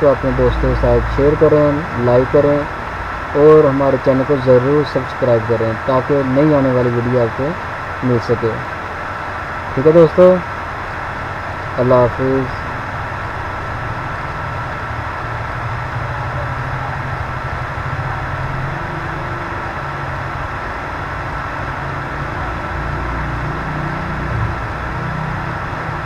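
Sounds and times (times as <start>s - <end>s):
low hum with hiss: 0.0s - 26.0s.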